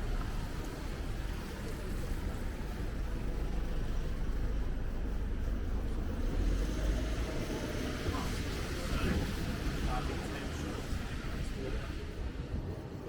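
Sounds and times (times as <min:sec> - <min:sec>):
street traffic rumbling: 0:00.0 - 0:13.0.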